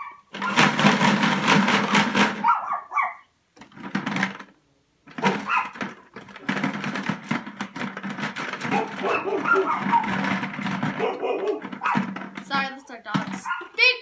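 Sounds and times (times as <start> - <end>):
plastic markers rattling in bucket: 0.3 - 2.5, 3.6 - 14.0.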